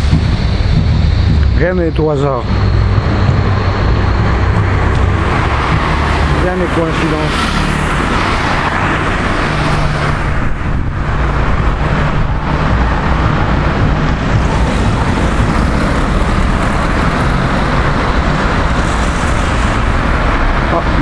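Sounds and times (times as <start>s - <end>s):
street traffic rush: 0.0s - 21.0s
vehicle engine running: 0.0s - 21.0s.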